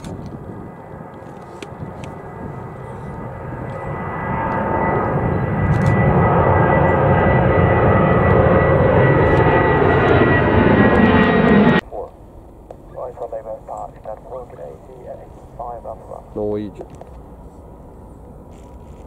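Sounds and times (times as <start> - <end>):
jet engines roaring overhead: 0.0 - 18.6
high jet whine: 0.0 - 19.0.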